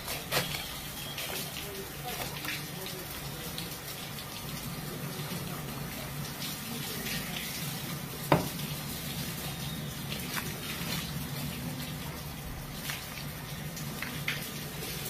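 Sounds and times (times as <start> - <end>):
running tap water: 0.0 - 15.0.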